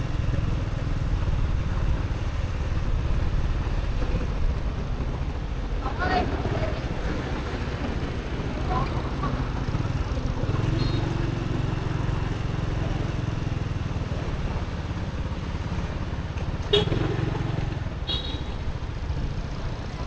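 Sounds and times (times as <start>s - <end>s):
motorbike engine and road rumble: 0.0s - 20.0s.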